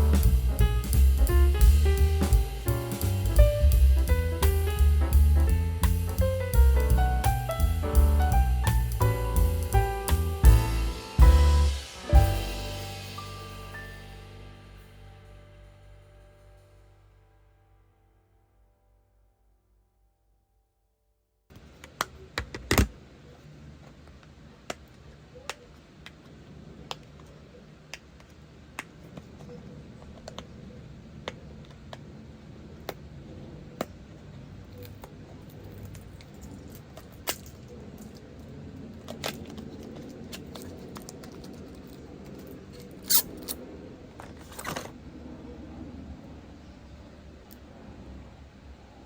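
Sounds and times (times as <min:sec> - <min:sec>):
low room noise: 0:00.0 - 0:49.0.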